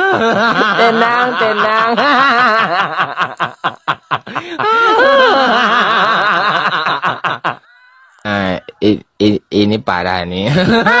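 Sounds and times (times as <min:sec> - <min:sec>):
loud laughter: 0:00.0 - 0:08.8, 0:10.5 - 0:11.0.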